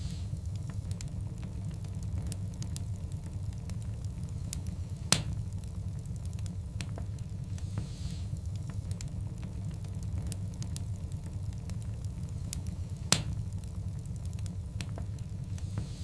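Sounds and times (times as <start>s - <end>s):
burning logs crackling: 0.0s - 16.0s
low rumble of fire: 0.0s - 16.0s.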